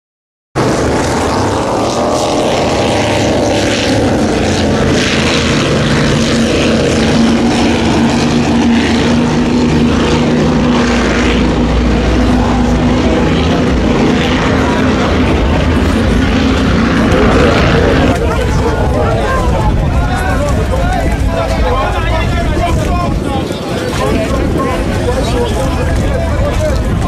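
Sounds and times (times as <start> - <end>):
powerboat engines at high revs: 0.6 - 27.0.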